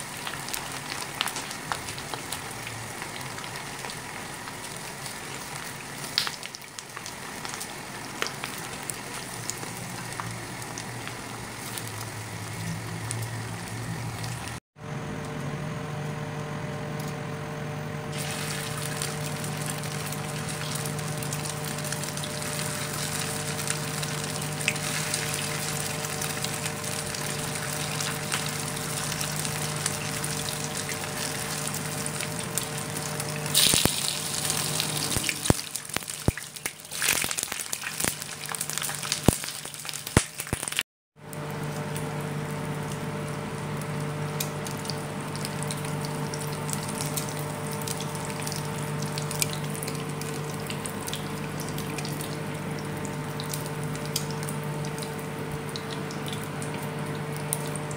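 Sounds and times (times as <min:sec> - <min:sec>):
oil sizzling in frying pan: 0:00.0 - 0:14.6, 0:18.1 - 0:57.9.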